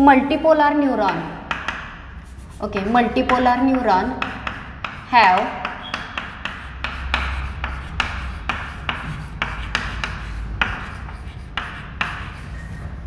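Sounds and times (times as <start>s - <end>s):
chalk scratching on chalkboard: 0.8s - 13.0s.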